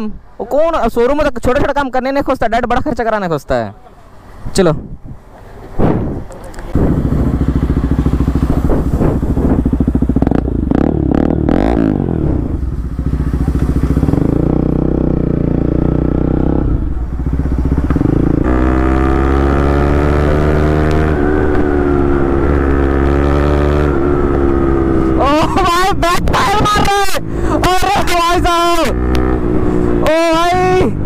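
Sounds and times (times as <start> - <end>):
motorcycle engine revving: 6.0 - 31.0.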